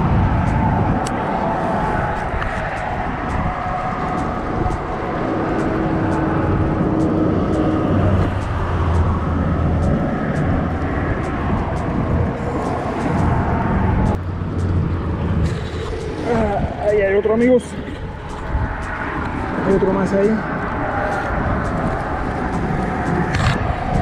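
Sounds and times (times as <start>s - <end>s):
road traffic rumble: 0.0s - 24.0s
faint regular ticking: 0.2s - 24.0s.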